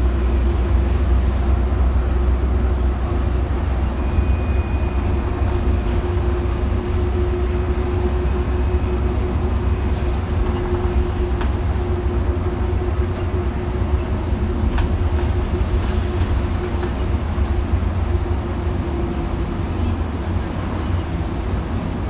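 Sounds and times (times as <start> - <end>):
bus engine and road rumble: 0.0 - 22.0
constant hum: 0.0 - 22.0.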